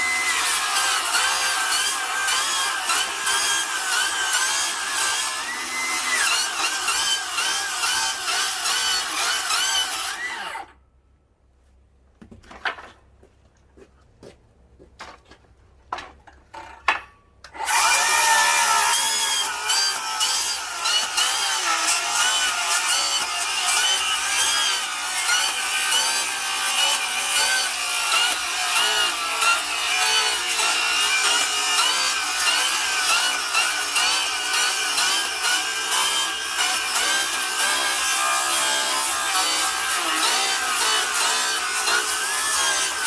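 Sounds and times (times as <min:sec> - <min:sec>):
circular saw cutting wood: 0:00.0 - 0:10.8, 0:17.5 - 0:43.0.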